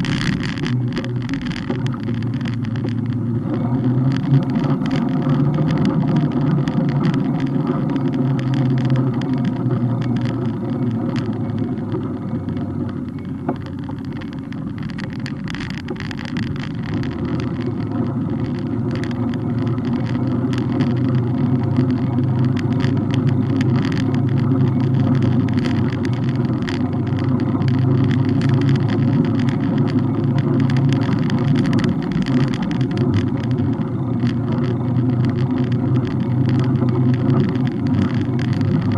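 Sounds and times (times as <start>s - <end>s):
bike riding rumble: 0.0s - 38.9s
road noise: 0.0s - 38.9s
small rattles and clicks: 0.0s - 38.9s
wind: 0.0s - 38.9s.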